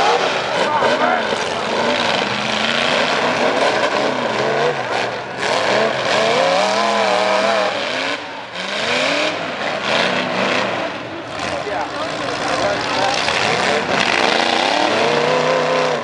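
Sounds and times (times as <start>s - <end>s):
pickup truck engines revving: 0.0s - 16.0s.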